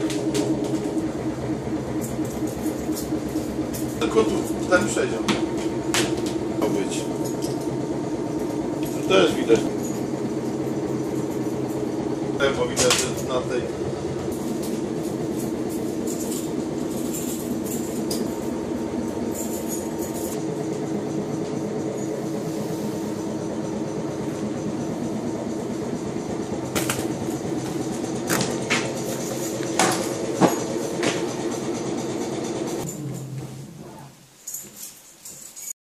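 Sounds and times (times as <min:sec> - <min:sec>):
train equipment droning: 0:00.0 - 0:34.6.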